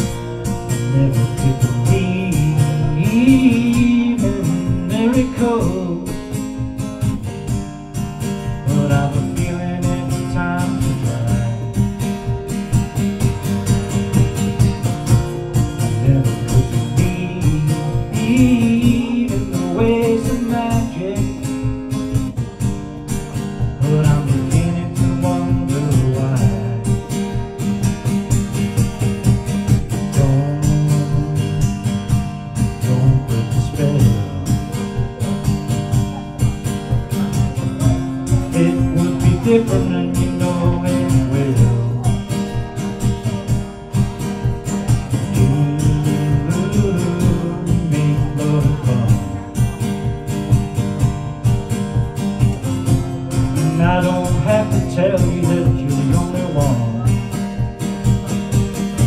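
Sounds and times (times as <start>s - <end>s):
acoustic guitar strumming: 0.0s - 59.0s
man singing: 0.0s - 59.0s.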